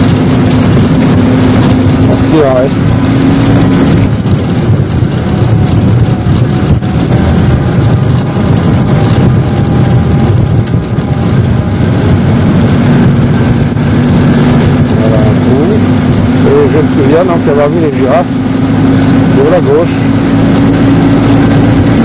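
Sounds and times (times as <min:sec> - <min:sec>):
road noise rumble: 0:00.0 - 0:22.0
vehicle engine running: 0:00.0 - 0:22.0.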